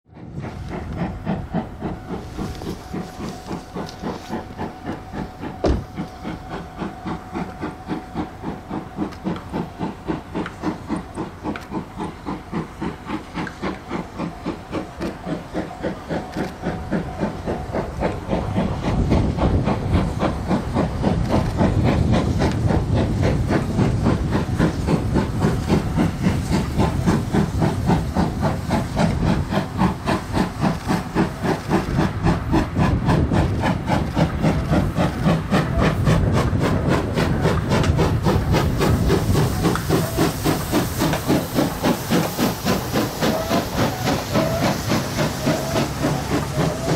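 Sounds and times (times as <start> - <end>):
steam locomotive exhaust chuffing: 0.1 - 46.9
hissing steam: 0.2 - 46.9.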